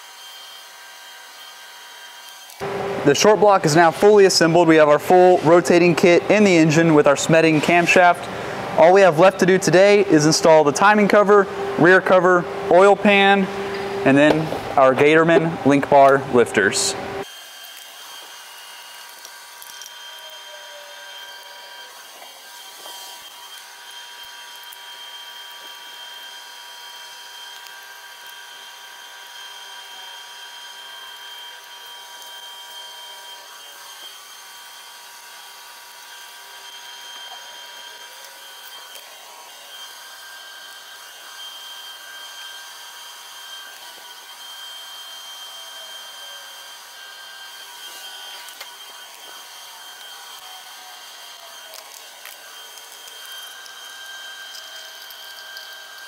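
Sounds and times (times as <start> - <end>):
high-pitched workshop whine: 0.0 - 56.0.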